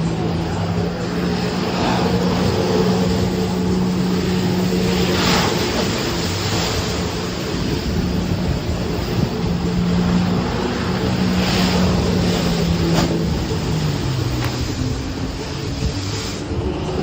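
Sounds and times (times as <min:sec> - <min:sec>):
jet ski engine running: 0:00.0 - 0:17.0
water rushing hiss: 0:00.0 - 0:17.0.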